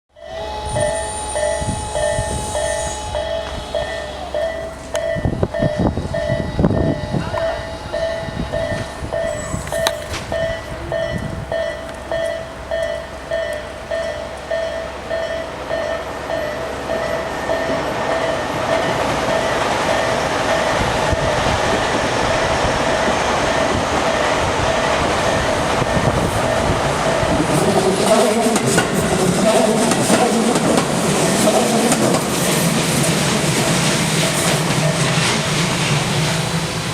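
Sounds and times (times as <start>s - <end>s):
level crossing warning bell: 0.1s - 35.5s
train passing: 0.1s - 36.9s.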